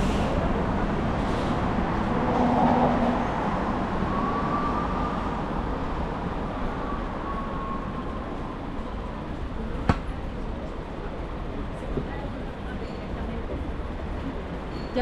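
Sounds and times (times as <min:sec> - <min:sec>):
passing vehicles: 0:00.0 - 0:12.6.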